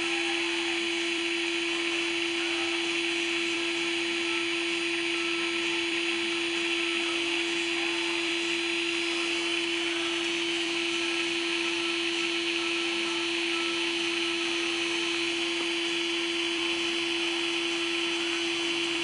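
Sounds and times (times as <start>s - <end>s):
small electric motor humming: 0.0s - 19.0s.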